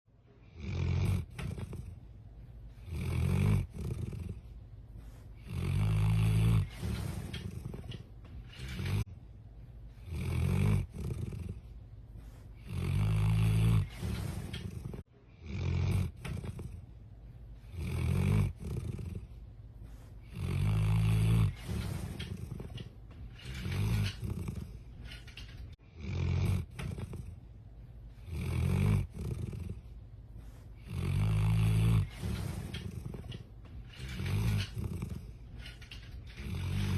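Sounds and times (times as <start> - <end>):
dog snoring: 0.4 - 9.1, 9.9 - 36.9
dog breathing quietly: 1.0 - 15.1, 15.9 - 25.8, 26.4 - 36.9.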